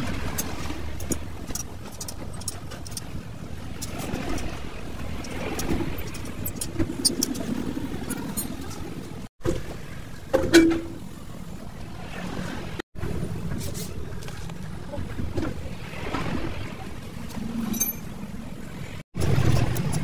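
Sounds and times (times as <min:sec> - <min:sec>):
vehicle engine rumble: 0:00.0 - 0:10.2, 0:13.0 - 0:20.0.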